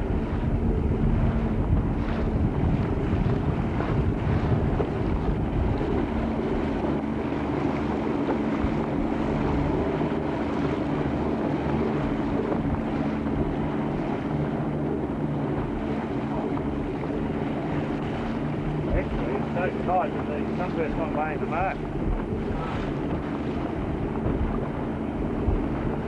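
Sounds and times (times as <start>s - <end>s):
motorboat engine running: 0.0s - 26.0s
water rushing past hull: 0.0s - 26.0s
wind buffeting microphone: 0.0s - 26.0s.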